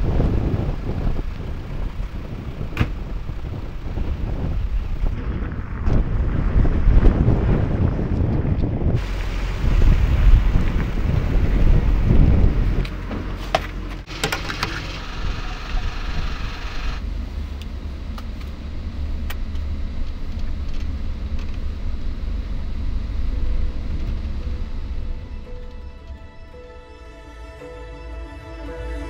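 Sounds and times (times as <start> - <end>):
van engine running: 0.0 - 26.6.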